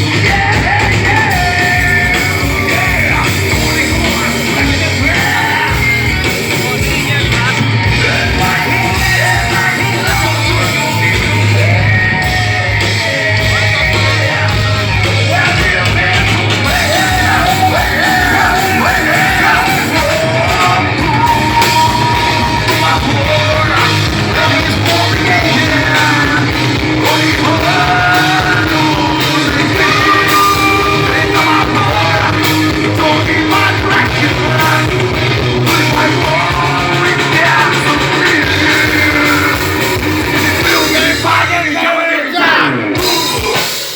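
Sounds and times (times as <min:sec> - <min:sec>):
rock band playing live: 0:00.0 - 0:43.9
shouted lead vocal: 0:00.0 - 0:43.9.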